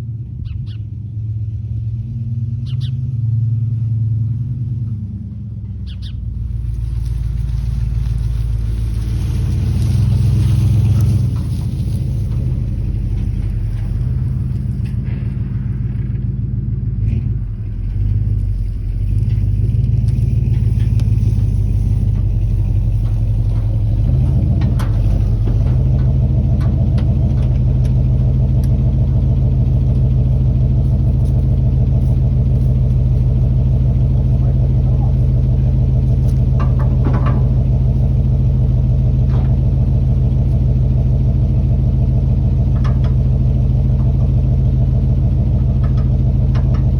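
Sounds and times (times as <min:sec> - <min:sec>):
pickup truck engine running: 0:00.0 - 0:46.9.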